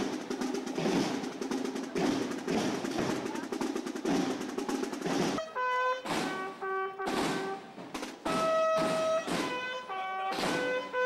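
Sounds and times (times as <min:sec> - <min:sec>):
brass band playing a march: 0:00.0 - 0:11.0
heavy drum beats: 0:00.0 - 0:11.0.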